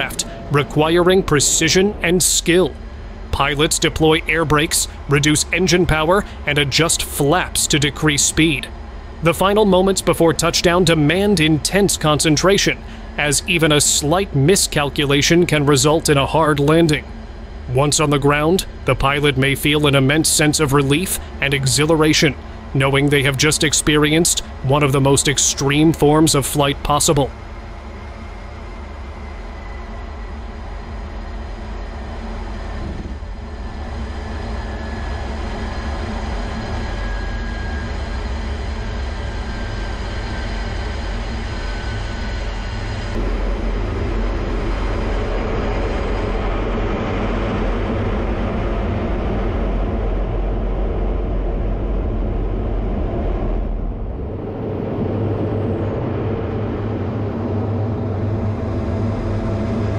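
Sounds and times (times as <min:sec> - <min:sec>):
jet engine rumble and whine: 0:00.0 - 0:59.9.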